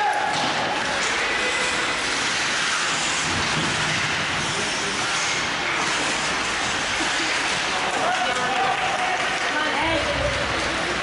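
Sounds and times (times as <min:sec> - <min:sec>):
arena background noise: 0:00.0 - 0:11.0
skate blades scraping ice: 0:00.5 - 0:11.0.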